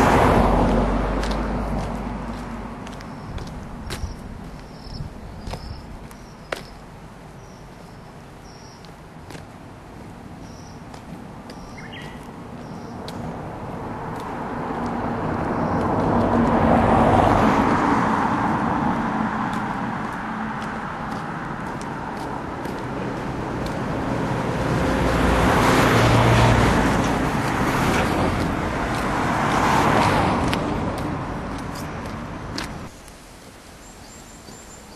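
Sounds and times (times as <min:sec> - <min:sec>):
vehicles passing on road: 0:00.0 - 0:34.9.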